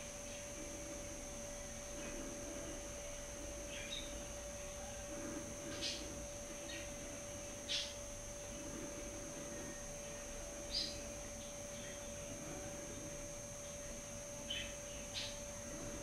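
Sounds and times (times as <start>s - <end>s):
faint electrical hum: 0.0s - 16.0s
songbirds chirping: 0.0s - 16.0s.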